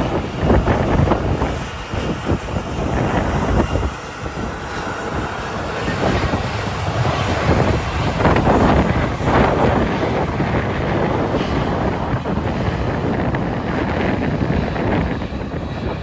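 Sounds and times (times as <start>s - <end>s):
deep rumble: 0.0s - 16.0s
wind buffeting microphone: 0.0s - 16.0s.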